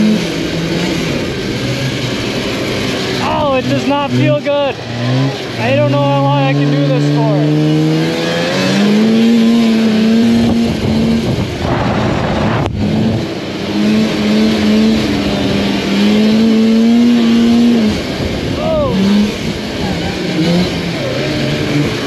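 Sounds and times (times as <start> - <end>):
rush of track and snow: 0.0 - 22.0
snowmobile engine at high revs: 0.0 - 22.0.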